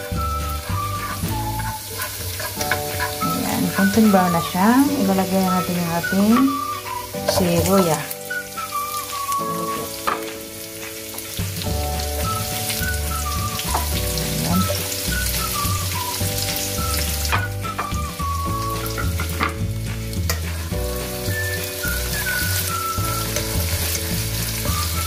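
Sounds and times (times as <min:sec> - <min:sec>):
background music with bass line: 0:00.0 - 0:10.1, 0:11.0 - 0:25.0
onion and garlic sizzling in oil: 0:00.0 - 0:25.0.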